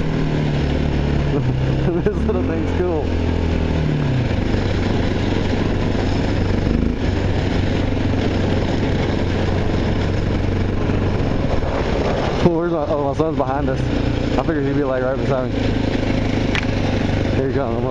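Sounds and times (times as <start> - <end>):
motorcycle engine running: 0.0 - 17.9
wind noise: 0.0 - 17.9.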